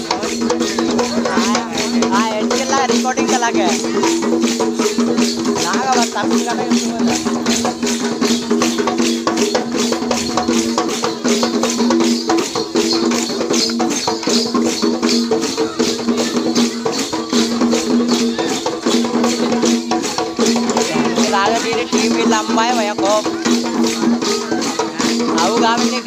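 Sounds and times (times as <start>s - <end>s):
fast percussion beat: 0.0s - 26.0s.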